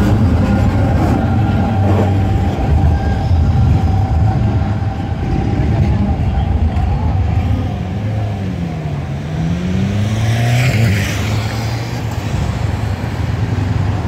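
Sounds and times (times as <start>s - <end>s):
vehicle engine accelerating: 0.0s - 14.0s.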